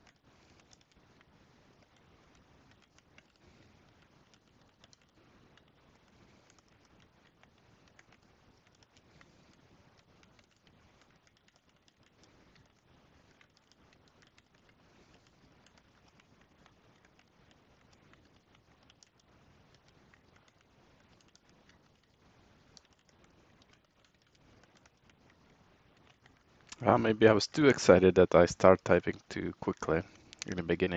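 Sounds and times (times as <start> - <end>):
keyboard keys clicking: 0.0 - 25.4.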